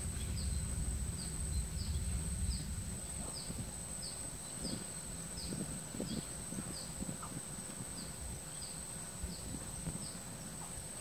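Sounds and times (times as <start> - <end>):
insect chirps: 0.0 - 11.0
insects whining: 0.0 - 11.0.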